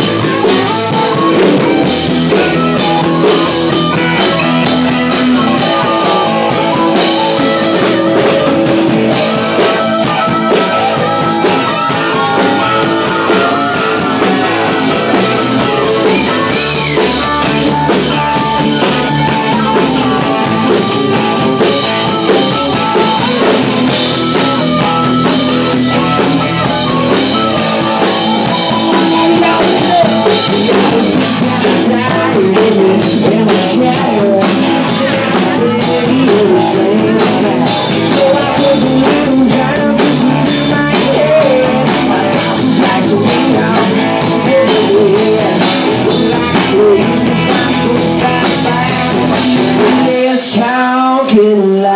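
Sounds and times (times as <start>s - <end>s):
drum kit: 0.0s - 51.6s
bass: 0.0s - 51.9s
electric guitar: 0.0s - 51.9s
person singing lead: 0.0s - 51.9s.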